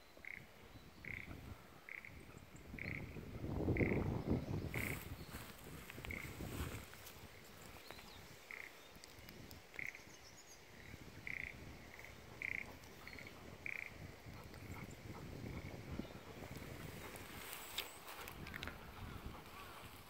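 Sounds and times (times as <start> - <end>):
frogs croaking: 0.2 - 7.0, 8.4 - 10.2, 10.8 - 19.7.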